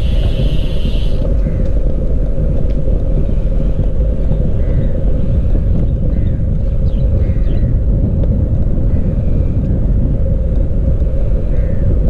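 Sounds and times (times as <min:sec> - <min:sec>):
bicycle road noise: 0:00.0 - 0:12.0
wind rumble: 0:00.0 - 0:12.0.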